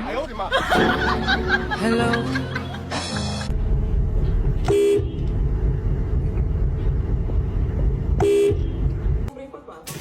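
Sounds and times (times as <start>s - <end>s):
vehicle running rumble: 0.0s - 9.3s.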